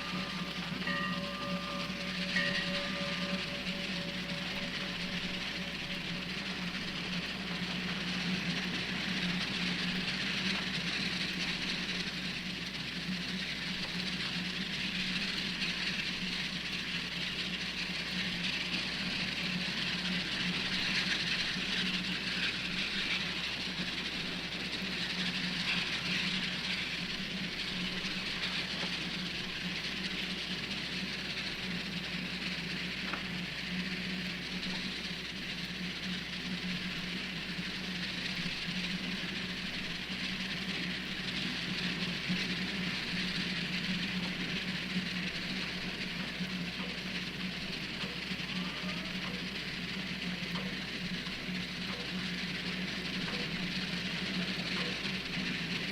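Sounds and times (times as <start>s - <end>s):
mechanical hum: 0.0s - 55.9s.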